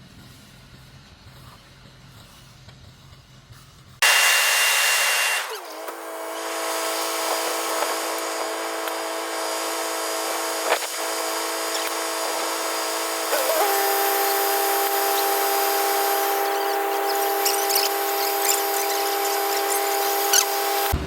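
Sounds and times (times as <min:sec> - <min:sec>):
loud hiss: 0:04.0 - 0:21.0
machine motor running: 0:04.0 - 0:21.0.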